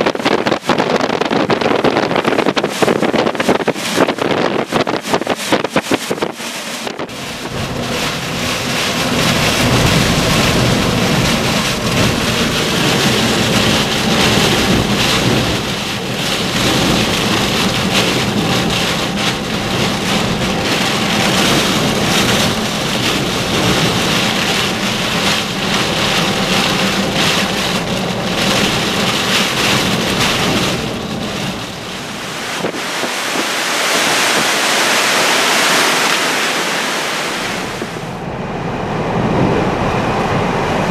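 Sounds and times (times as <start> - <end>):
low rumble: 0.0 - 35.0
heavy rain on a car windshield: 0.0 - 38.3
wind gusts with rain: 0.0 - 40.9.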